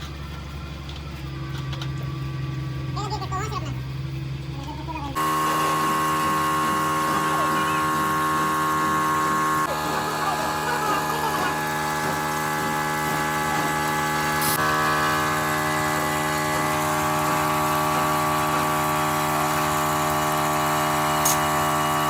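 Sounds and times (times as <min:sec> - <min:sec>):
workshop machine humming: 0:00.0 - 0:22.0.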